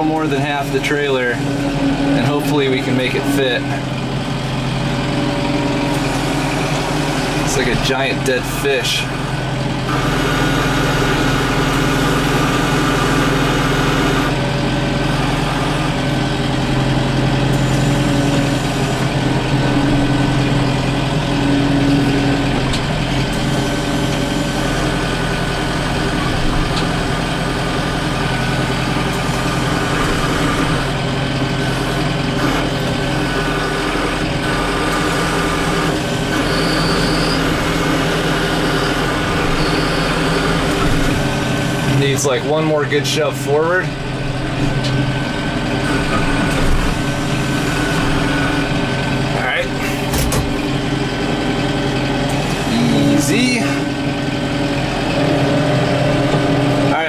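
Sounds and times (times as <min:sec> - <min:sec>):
loader hydraulic whine: 0:00.0 - 0:57.0
tractor engine running under load: 0:00.0 - 0:57.0.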